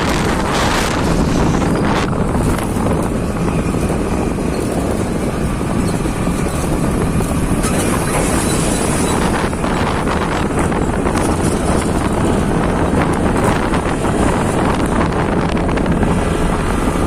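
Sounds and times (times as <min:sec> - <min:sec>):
motorcycle engine rumble: 0:00.0 - 0:17.0
wind rush on microphone: 0:00.0 - 0:17.0.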